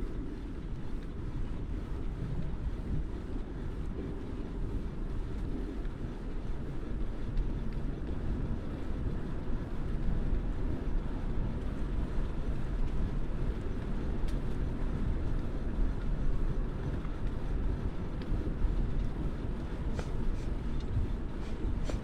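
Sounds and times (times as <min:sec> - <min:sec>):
road noise from moving bike: 0:00.0 - 0:22.0
wind on microphone: 0:00.0 - 0:22.0.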